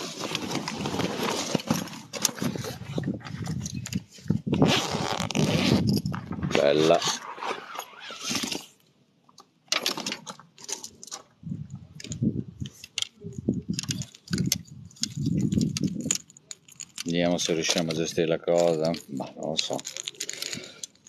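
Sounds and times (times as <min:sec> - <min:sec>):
fishing tackle rustling and clicking: 0:00.0 - 0:21.0.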